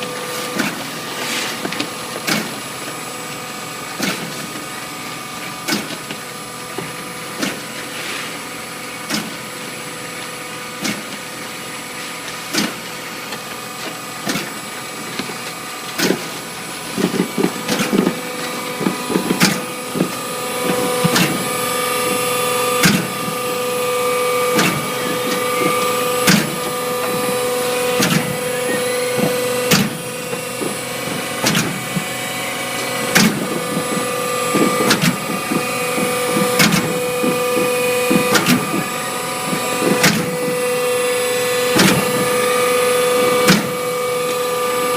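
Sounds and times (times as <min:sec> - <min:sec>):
machine mechanical hum: 0:00.0 - 0:44.9.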